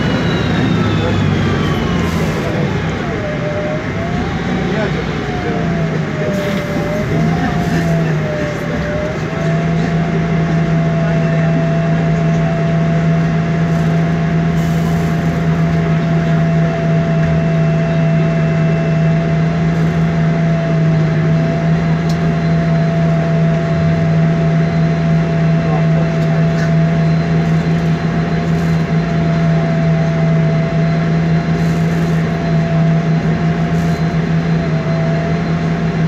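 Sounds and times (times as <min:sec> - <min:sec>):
bus engine idling low hum: 0:00.0 - 0:36.0.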